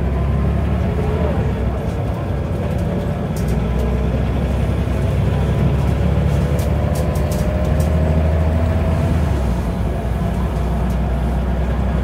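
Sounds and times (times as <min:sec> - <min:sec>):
bus diesel engine pulling: 0:00.0 - 0:12.0.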